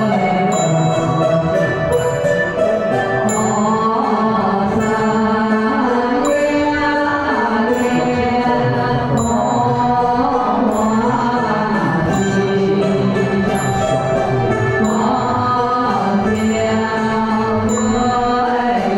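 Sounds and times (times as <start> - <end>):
chant-like vocal music: 0.0 - 18.9.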